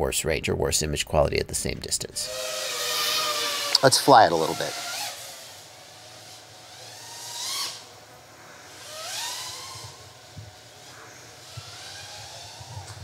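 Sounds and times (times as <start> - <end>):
quadcopter motors whining: 2.0 - 13.0.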